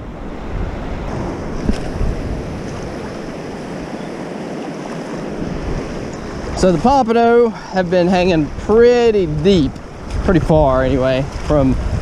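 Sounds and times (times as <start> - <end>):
ocean surf washing: 0.0 - 12.0
wind rumbling on microphone: 0.0 - 12.0.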